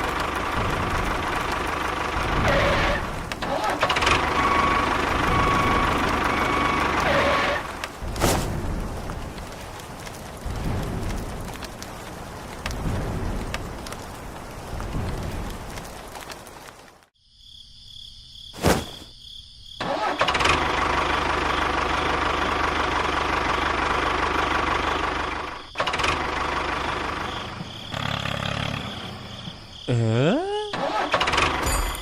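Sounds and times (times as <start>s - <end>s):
rain-like hiss: 0.0s - 17.6s, 21.0s - 31.6s.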